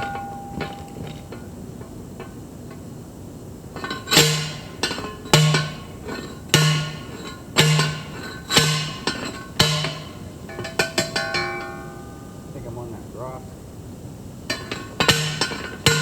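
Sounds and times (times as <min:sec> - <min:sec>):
post driver striking metal post: 0:00.0 - 0:02.8, 0:03.8 - 0:12.4, 0:14.5 - 0:16.0.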